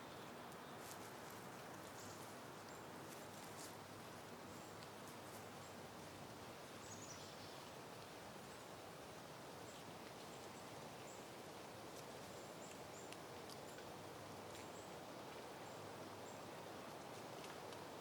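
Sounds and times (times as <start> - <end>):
soft wind in vegetation: 0.0 - 18.0.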